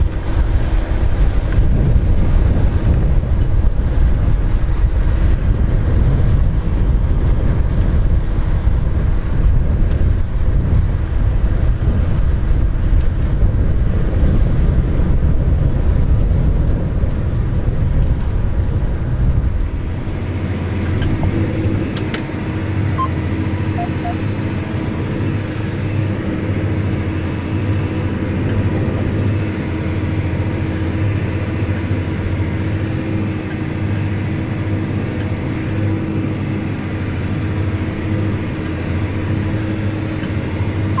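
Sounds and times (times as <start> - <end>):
heavy low rumble: 0.0 - 41.0
machine engine hum: 0.0 - 41.0
wind on microphone: 0.0 - 41.0.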